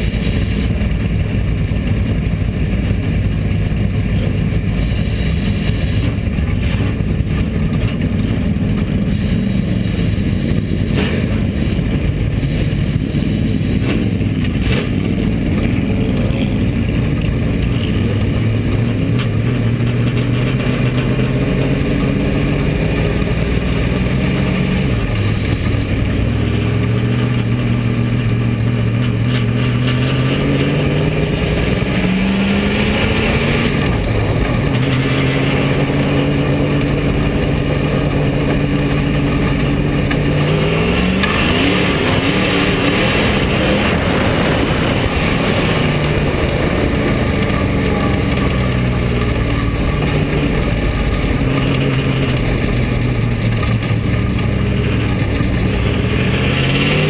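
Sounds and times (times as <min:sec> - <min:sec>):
stock car engine from inside: 0:00.0 - 0:57.0.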